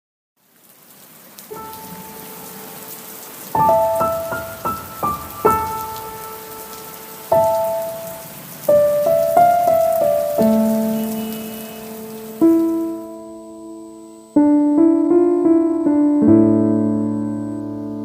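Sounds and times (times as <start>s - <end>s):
steady rain hiss: 0.4s - 18.0s
slow piano melody: 1.5s - 18.0s.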